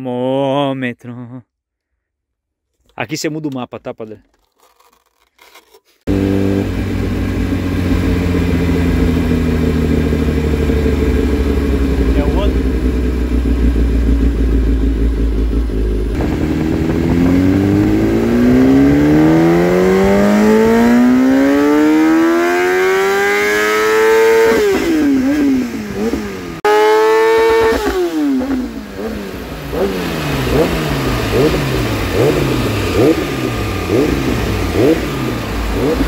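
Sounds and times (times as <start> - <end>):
motorcycle engine revving: 6.1 - 36.0.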